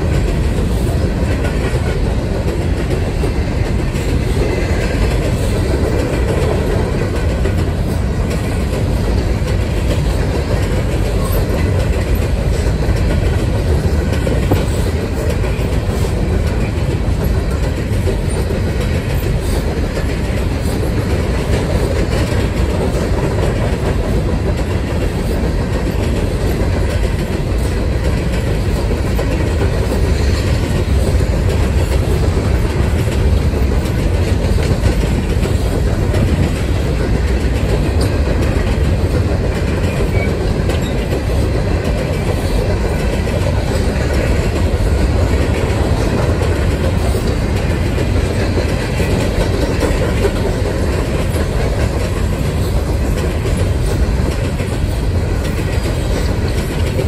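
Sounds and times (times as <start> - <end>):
freight train wheels rumbling: 0.0 - 57.0
wheels clacking over rail joints: 0.0 - 57.0.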